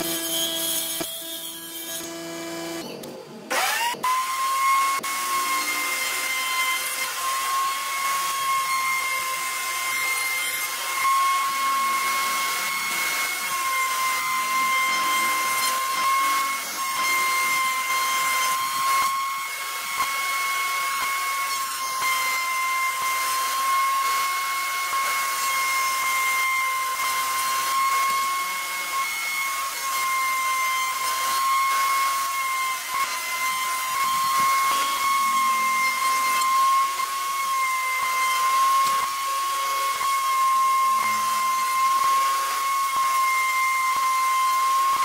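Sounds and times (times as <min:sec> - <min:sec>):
router whining: 0:00.0 - 0:45.0.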